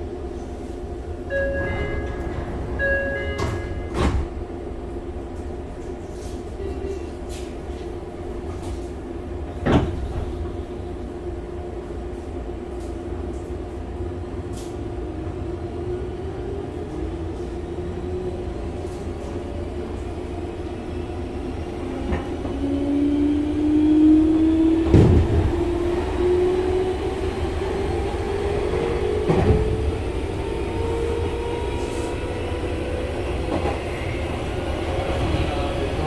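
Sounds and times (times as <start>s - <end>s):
train running rumble: 0.0s - 36.0s.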